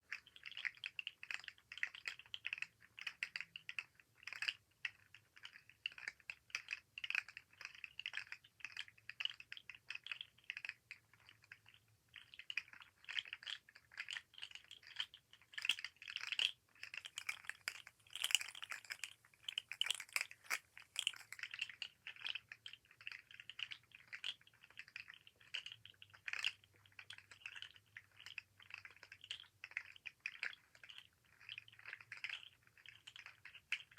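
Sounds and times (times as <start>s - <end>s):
toy segments clicking and rattling: 0.2s - 33.9s.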